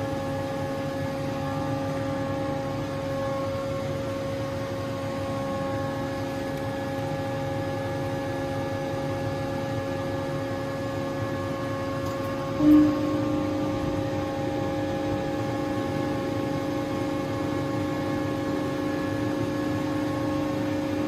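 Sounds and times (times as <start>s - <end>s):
lathe machine hum with whining: 0.0s - 21.0s.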